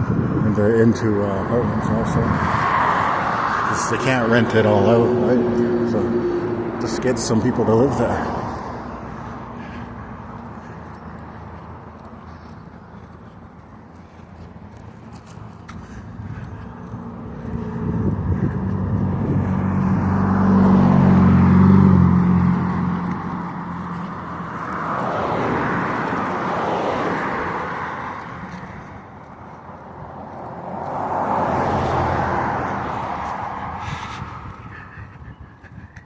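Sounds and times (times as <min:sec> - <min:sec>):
motor vehicles passing: 0:00.0 - 0:36.0.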